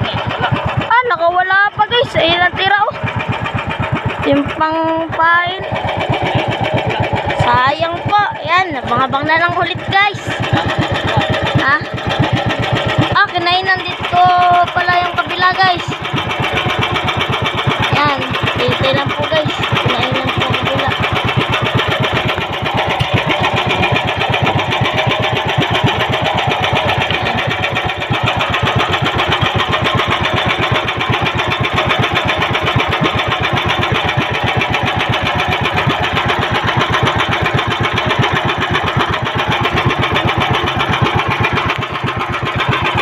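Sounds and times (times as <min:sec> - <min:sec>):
small boat engine chugging: 0:00.0 - 0:43.0.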